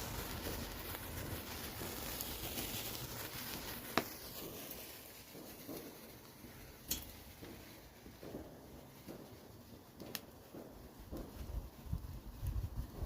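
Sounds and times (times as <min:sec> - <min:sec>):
faint hiss: 0:00.0 - 0:13.0
sharp fire pops: 0:00.0 - 0:13.0
wood fire crackling: 0:00.0 - 0:13.0.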